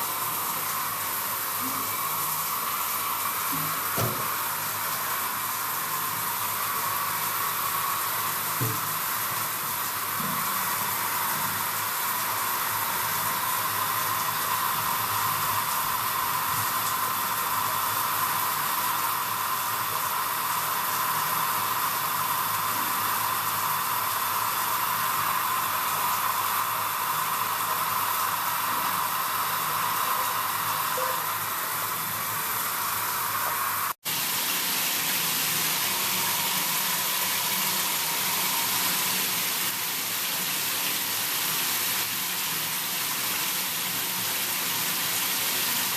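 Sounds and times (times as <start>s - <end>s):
shower head spraying water: 0.0s - 45.9s.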